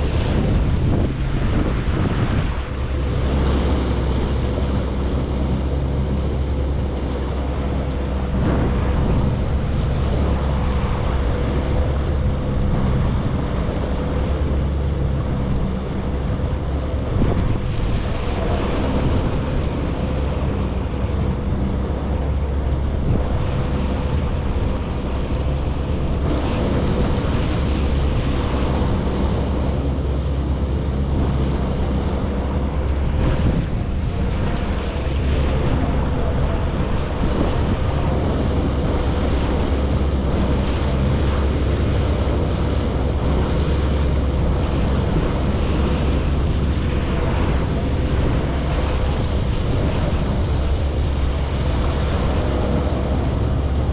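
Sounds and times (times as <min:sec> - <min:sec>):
jet ski engine droning: 0:00.0 - 0:53.9
rushing water: 0:00.0 - 0:53.9
wind buffeting microphone: 0:00.0 - 0:53.9.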